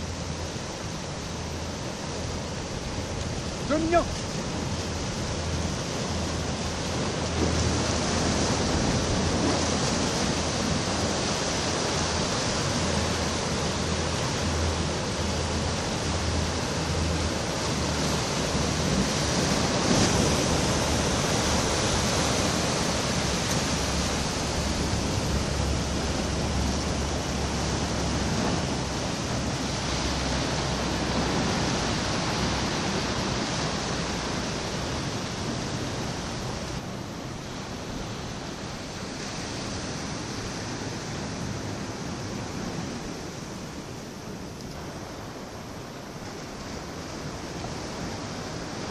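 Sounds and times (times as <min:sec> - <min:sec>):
waves washing against rocks: 0:00.0 - 0:48.9
wind: 0:00.0 - 0:48.9.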